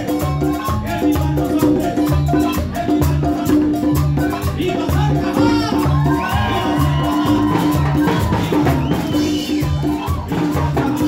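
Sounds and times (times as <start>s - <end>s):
congas: 0.0s - 11.0s
drum kit: 0.0s - 11.0s
marimba: 0.0s - 11.0s
repeating bass line: 0.0s - 11.0s.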